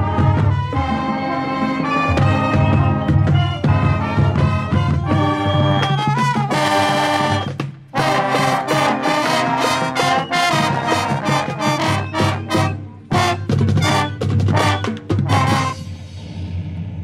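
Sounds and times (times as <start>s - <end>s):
brass playing loud chords: 0.0s - 15.9s
drums: 0.0s - 17.0s.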